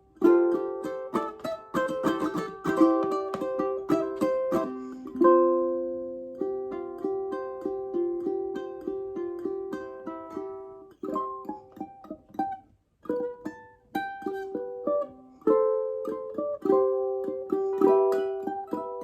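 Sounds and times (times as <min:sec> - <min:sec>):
ukulele playing: 0:00.0 - 0:19.0.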